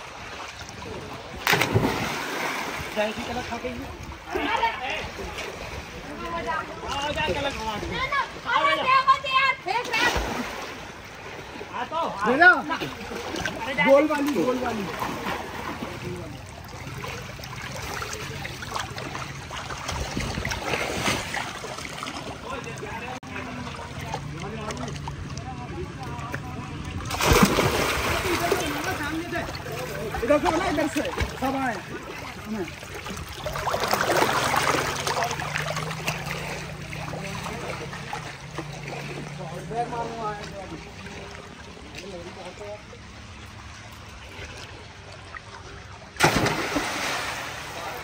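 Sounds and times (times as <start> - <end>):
pool water splashing: 0.0 - 48.0.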